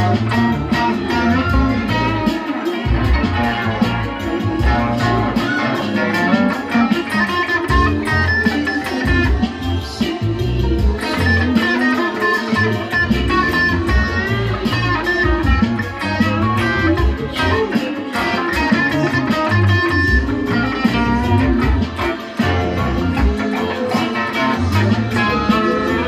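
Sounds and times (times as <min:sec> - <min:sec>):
deep bass line: 0:00.0 - 0:02.3, 0:02.9 - 0:06.8, 0:07.5 - 0:08.4, 0:09.1 - 0:11.6, 0:12.7 - 0:17.7, 0:18.5 - 0:23.4, 0:24.5 - 0:26.0
electric guitar funky groove: 0:00.0 - 0:26.0
steady beat: 0:00.0 - 0:26.0.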